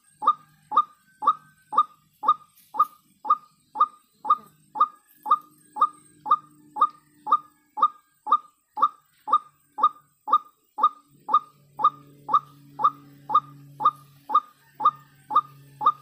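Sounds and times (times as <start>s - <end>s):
bird calling sharp notes: 0.0s - 16.0s.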